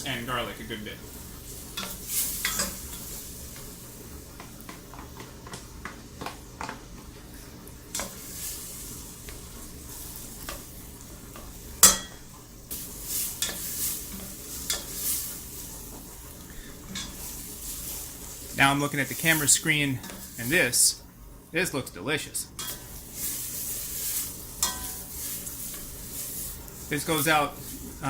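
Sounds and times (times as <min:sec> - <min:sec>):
onions sizzling in butter: 0:00.0 - 0:28.0
utensil scraping and clicking on pot: 0:01.2 - 0:06.7, 0:07.9 - 0:20.7, 0:22.6 - 0:28.0.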